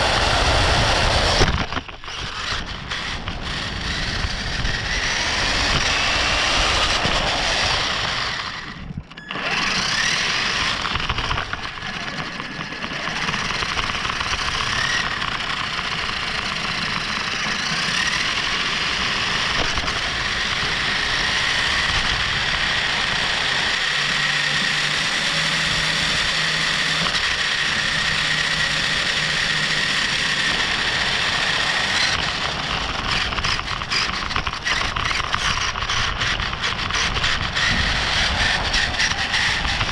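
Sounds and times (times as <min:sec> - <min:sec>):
toy car motor whining: 0:00.0 - 0:39.9
tyre and road noise: 0:00.0 - 0:39.9.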